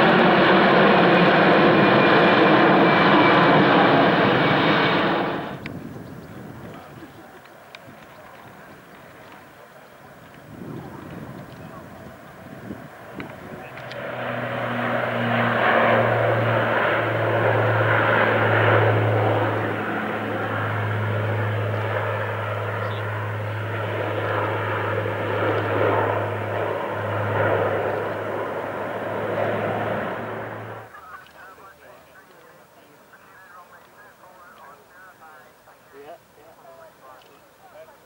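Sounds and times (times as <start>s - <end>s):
aircraft engines roaring: 0.0s - 38.0s.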